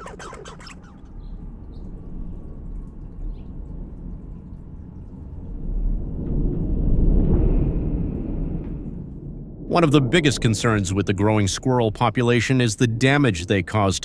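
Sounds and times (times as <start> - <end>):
low rumble: 1.3 - 13.0.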